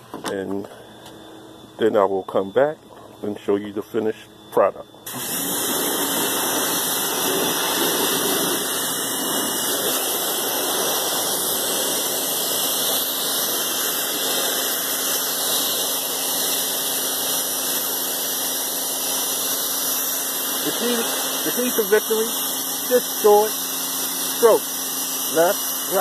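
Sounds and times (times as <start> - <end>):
faint motor hum: 0.0 - 26.0
pressure washer spraying water: 5.0 - 26.0.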